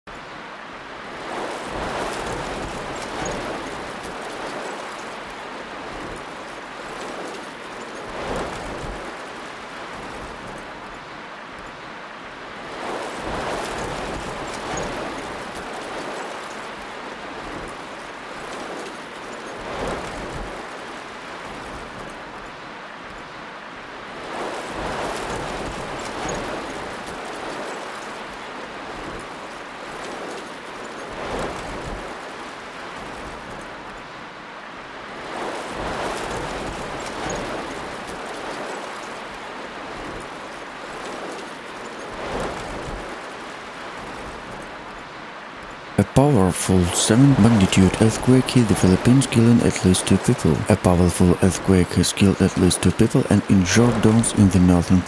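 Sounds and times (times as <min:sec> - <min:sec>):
rushing rain-like noise: 0:00.1 - 0:55.0.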